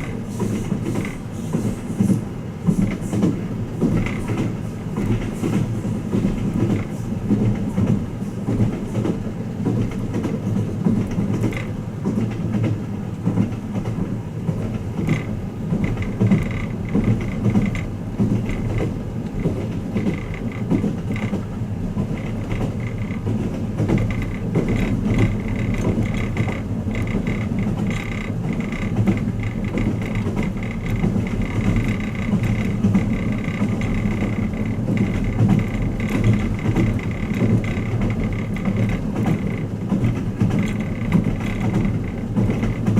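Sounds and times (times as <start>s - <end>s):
train car creaks and rattles: 0.0s - 42.9s
train wheels rumbling on rails: 0.0s - 42.9s.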